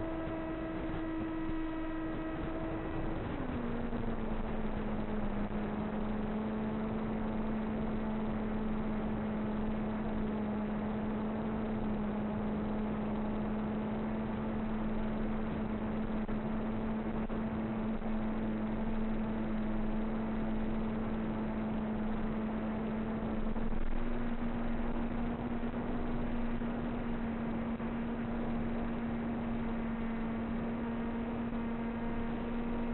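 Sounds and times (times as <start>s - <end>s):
motor running steadily: 0.0s - 32.9s.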